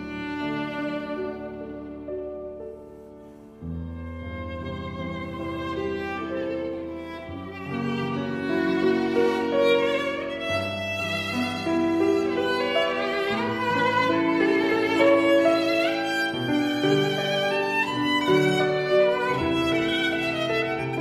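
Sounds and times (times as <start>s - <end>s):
violin playing slow notes: 0.0s - 21.0s.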